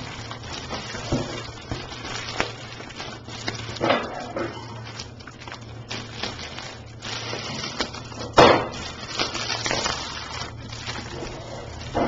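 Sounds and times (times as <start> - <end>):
plastic shrink-wrap crinkling and tearing: 0.0 - 12.0.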